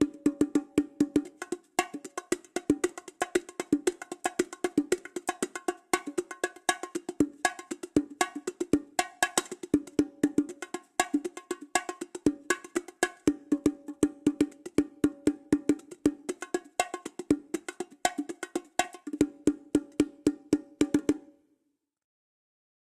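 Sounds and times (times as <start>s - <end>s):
toy bongo drums: 0.0s - 21.3s.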